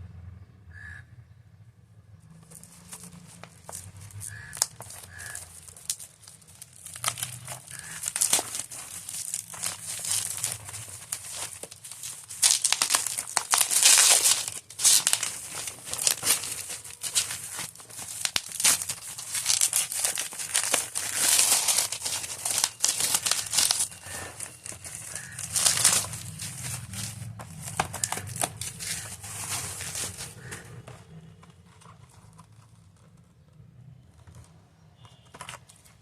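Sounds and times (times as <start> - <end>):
packaging crinkling and rustling: 2.3 - 36.0.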